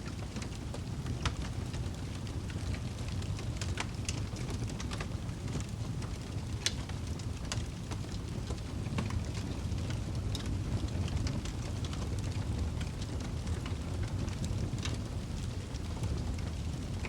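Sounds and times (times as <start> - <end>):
fire crackles and pops: 0.0 - 17.0
fire rumbling in fireplace: 0.0 - 17.0.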